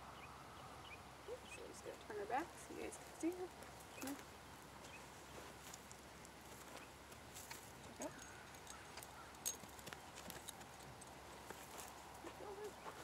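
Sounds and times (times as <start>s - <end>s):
horse hooves on sandy dirt: 1.6s - 13.0s.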